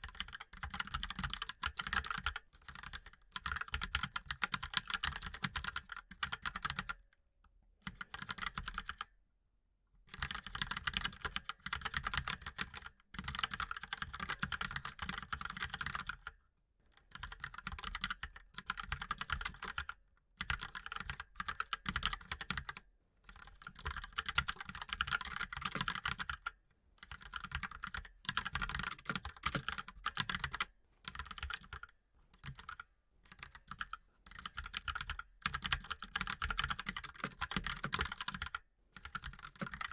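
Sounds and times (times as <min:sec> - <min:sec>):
typing on mechanical keyboard: 0:00.0 - 0:07.0, 0:07.8 - 0:09.1, 0:10.1 - 0:16.4, 0:17.0 - 0:39.9.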